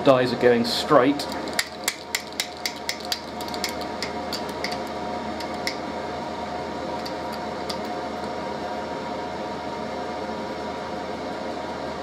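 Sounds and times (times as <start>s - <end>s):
workshop heater hum: 0.0s - 12.0s.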